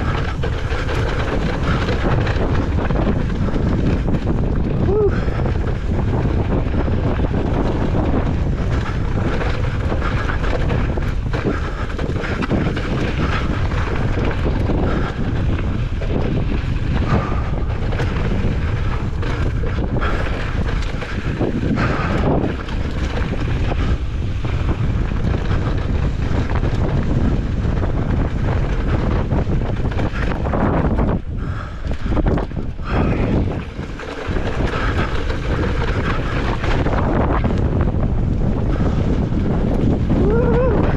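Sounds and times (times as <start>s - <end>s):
bike knocks and rattles: 0.0s - 40.9s
bike tyres roaring on dirt: 0.0s - 40.9s
wind buffeting microphone: 0.0s - 40.9s.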